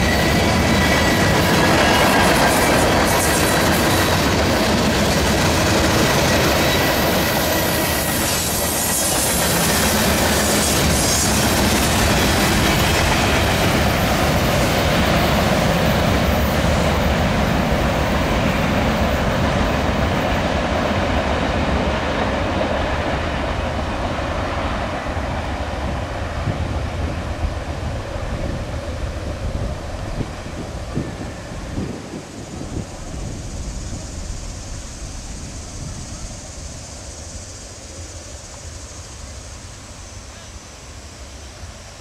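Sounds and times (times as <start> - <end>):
freight train wheels clattering: 0.0 - 38.7.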